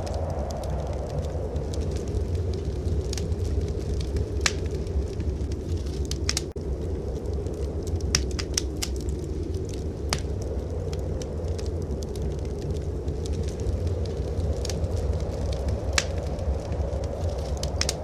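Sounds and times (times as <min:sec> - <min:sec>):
low rumble of fire: 0:00.0 - 0:18.0
wood fire crackling and popping: 0:00.0 - 0:18.0.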